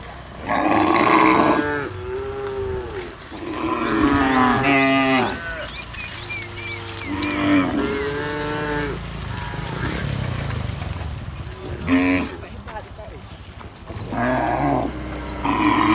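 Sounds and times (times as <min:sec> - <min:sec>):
cattle mooing: 0:00.3 - 0:10.4, 0:11.4 - 0:12.7, 0:13.9 - 0:15.9.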